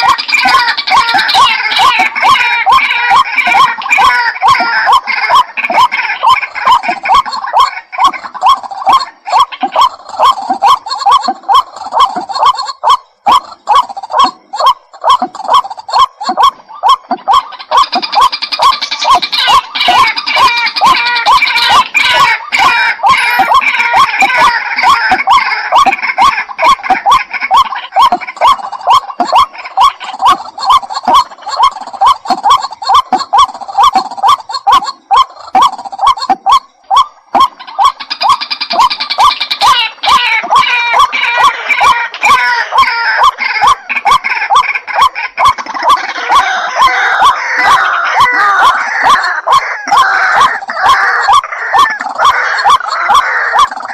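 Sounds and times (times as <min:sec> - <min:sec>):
waterhen harsh rising calls: 0:00.0 - 0:53.9.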